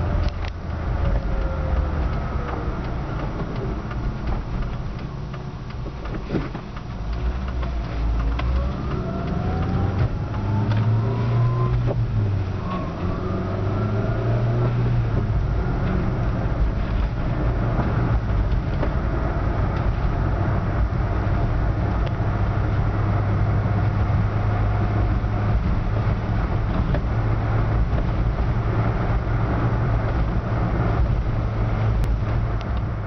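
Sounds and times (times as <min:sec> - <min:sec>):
road noise: 0:00.0 - 0:33.0
van engine humming: 0:00.0 - 0:33.0.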